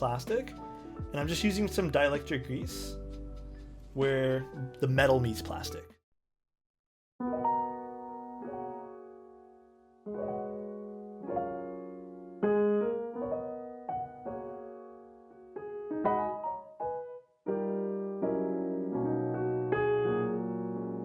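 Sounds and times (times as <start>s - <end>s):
piano music: 0.0s - 6.0s, 7.2s - 21.0s.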